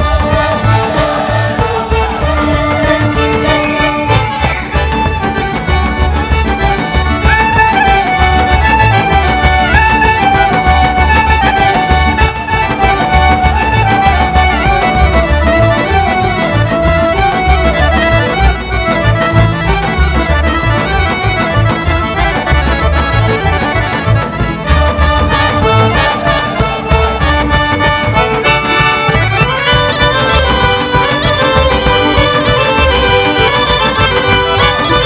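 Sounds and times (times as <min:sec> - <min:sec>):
accordion melody: 0:00.0 - 0:35.0
folk dance music: 0:00.0 - 0:35.0.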